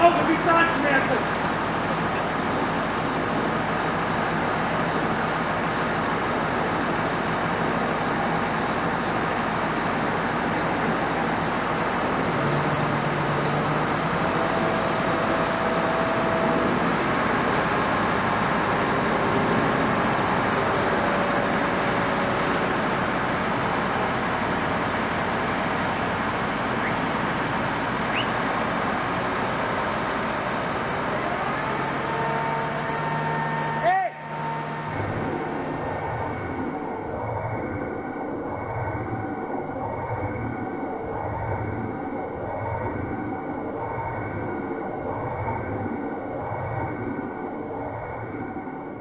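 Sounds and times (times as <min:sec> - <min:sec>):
engine noise: 0:00.0 - 0:49.0.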